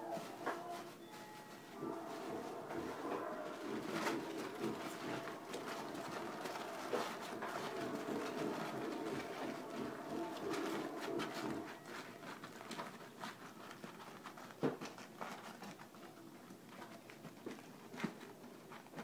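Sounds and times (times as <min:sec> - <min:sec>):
aluminium foil crinkling: 0:01.8 - 0:19.0.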